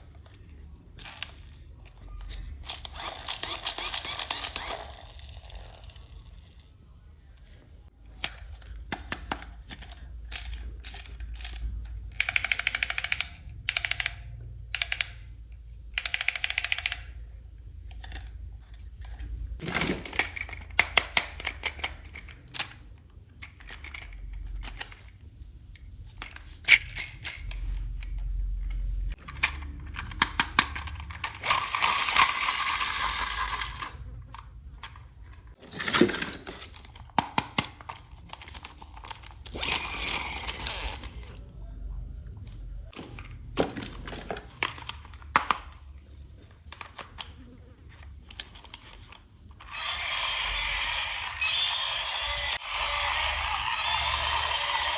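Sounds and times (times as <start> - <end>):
plastic toy parts clicking: 0.1 - 6.6, 7.4 - 41.2, 42.9 - 54.9.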